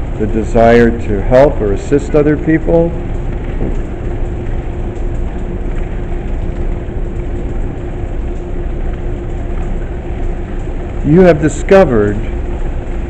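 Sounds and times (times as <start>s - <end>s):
constant low hum: 0.0s - 13.0s
mechanical rumble and rush: 0.0s - 13.0s.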